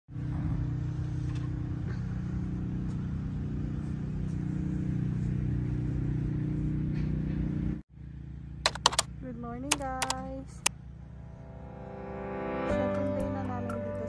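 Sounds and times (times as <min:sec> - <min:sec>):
low mechanical hum: 0:00.1 - 0:12.6.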